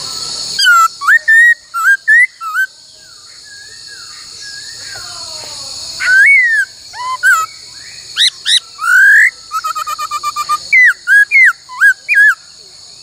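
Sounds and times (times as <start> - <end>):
steady high hiss: 0.0 - 13.0
bird singing whistled notes: 0.4 - 5.1, 5.9 - 13.0.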